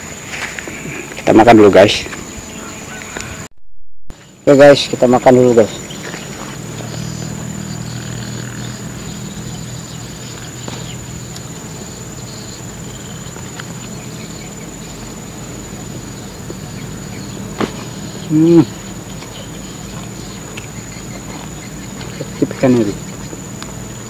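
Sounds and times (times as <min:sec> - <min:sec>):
insects droning: 0:00.0 - 0:03.5, 0:04.1 - 0:24.0.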